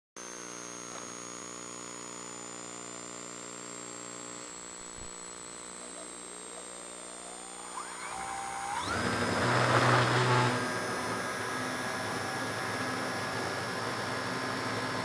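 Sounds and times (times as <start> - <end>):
model airplane motor whine: 0.4 - 15.0.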